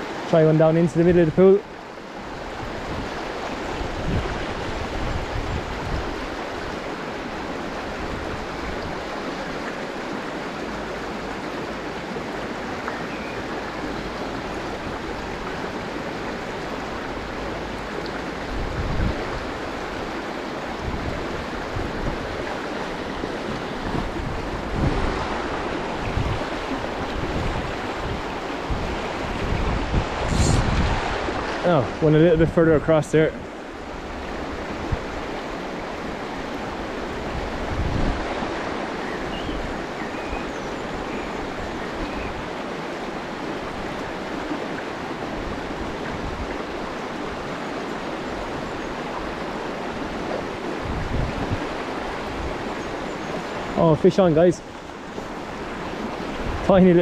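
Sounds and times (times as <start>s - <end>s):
wind buffeting microphone: 2.2s - 10.1s, 13.4s - 57.0s.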